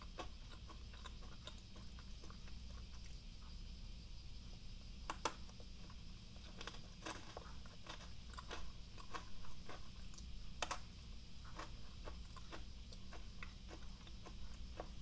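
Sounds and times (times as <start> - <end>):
crunchy pretzel sticks chewed: 0.0 - 3.6, 4.4 - 15.0.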